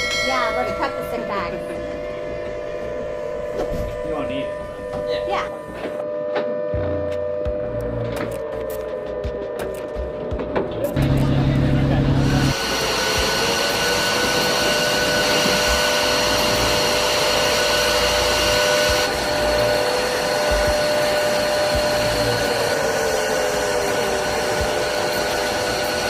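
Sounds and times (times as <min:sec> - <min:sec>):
jet engine whine: 0:00.0 - 0:26.0.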